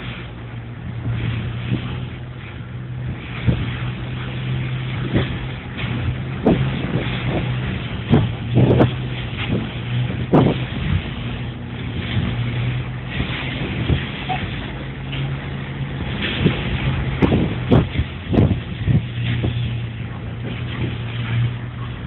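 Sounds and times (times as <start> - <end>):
ship engine drone: 0.0 - 22.0
water rushing along hull: 0.0 - 22.0
sharp thumps: 3.1 - 21.7.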